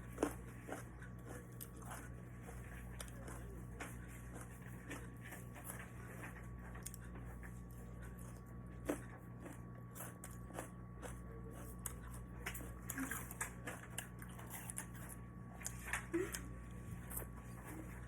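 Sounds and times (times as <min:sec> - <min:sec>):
person chewing: 0:00.0 - 0:16.4
steady low hum: 0:00.0 - 0:18.0.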